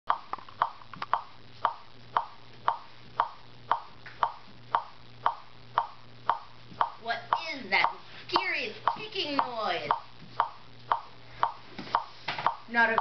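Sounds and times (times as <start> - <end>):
steady ticking clicks: 0.1 - 13.0.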